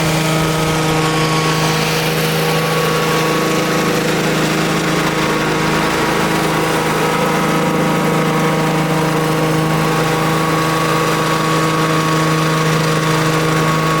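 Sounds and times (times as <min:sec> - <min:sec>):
shredder petrol engine running: 0:00.0 - 0:14.0.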